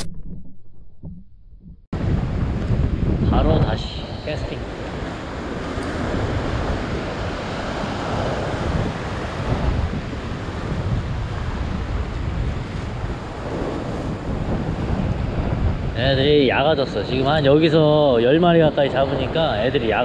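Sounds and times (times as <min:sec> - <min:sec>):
wind rumbling on microphone: 0:00.0 - 0:20.0
ocean surf against rocks: 0:02.0 - 0:20.0.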